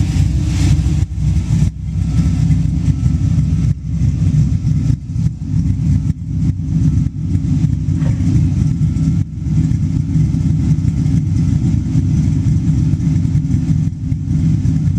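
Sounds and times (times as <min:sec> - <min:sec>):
car exhaust idling choppy: 0:00.0 - 0:14.9.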